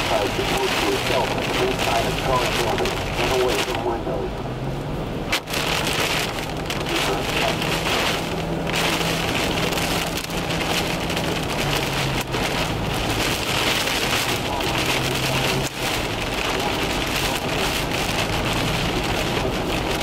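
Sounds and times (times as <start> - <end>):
car low hum: 0.0 - 20.0
heavy rain drumming on car roof: 0.0 - 20.0.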